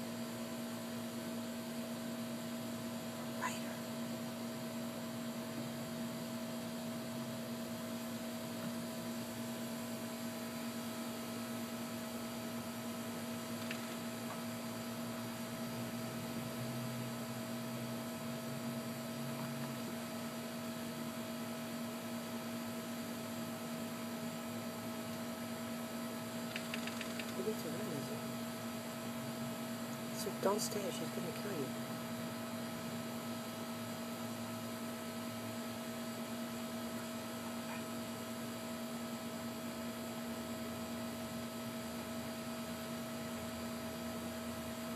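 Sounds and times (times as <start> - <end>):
electrical hum: 0.0 - 44.9.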